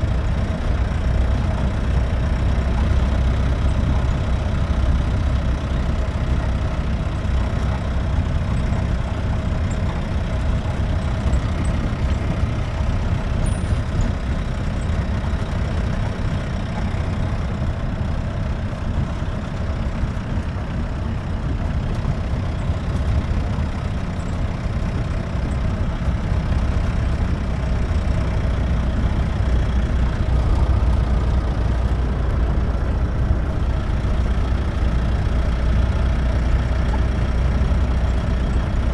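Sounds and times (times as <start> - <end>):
jeep engine running: 0.0 - 38.9.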